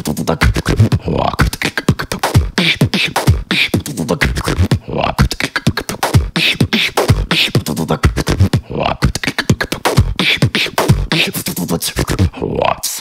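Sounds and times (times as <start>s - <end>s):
person beatboxing: 0.0s - 13.0s.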